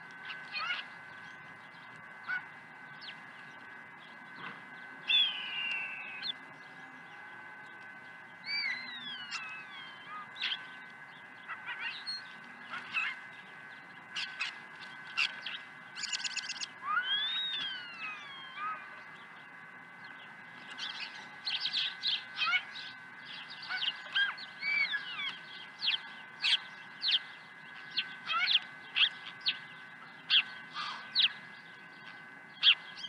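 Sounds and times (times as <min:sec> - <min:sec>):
faint high hum: 0:00.0 - 0:33.0
starlings whistling and calling: 0:00.2 - 0:03.2, 0:04.0 - 0:06.4, 0:08.3 - 0:33.0.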